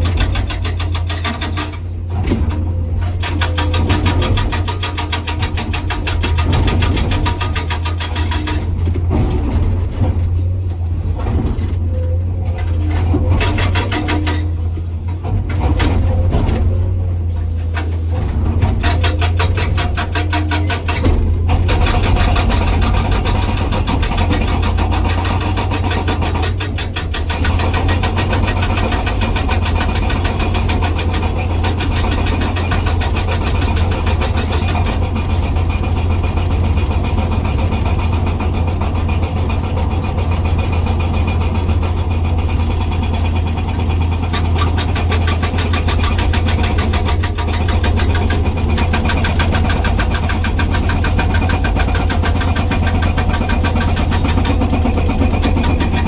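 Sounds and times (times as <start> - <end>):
diesel engine low hum: 0.0 - 56.0
hydraulic breaker hammering rock: 0.0 - 56.0.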